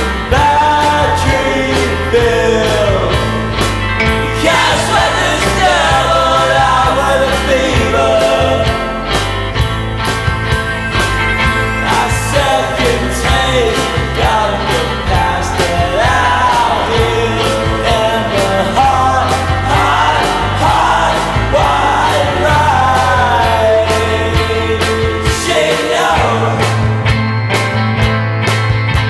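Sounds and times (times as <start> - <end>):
person singing: 0.0 - 9.3, 10.1 - 27.2
drum beat: 0.0 - 27.2
bass: 0.0 - 29.0
rock song: 0.0 - 29.0.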